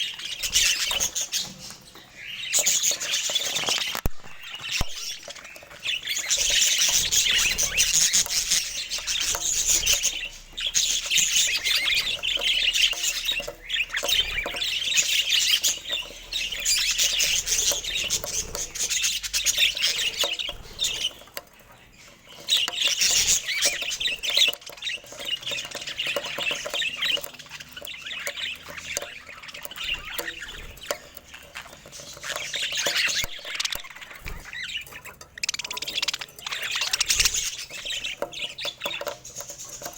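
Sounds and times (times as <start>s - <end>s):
budgerigar chatter: 0.0s - 39.9s.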